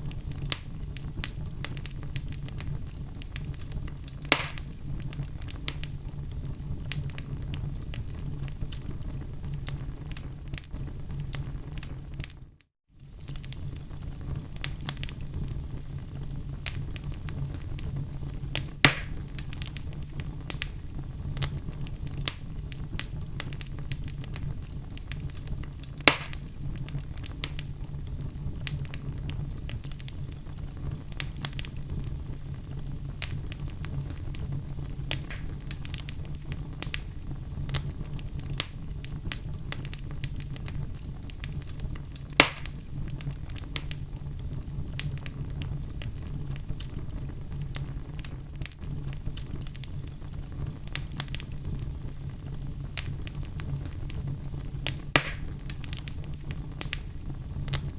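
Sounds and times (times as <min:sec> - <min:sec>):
fire pops: 0:00.0 - 0:57.9
log fire crackling: 0:00.0 - 0:57.9.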